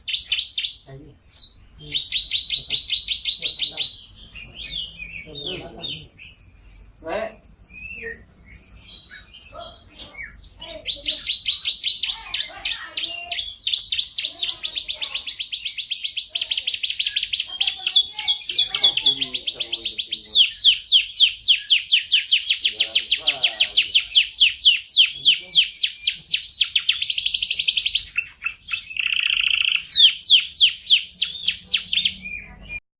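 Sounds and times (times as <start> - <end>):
canary singing trills: 0.0 - 32.8.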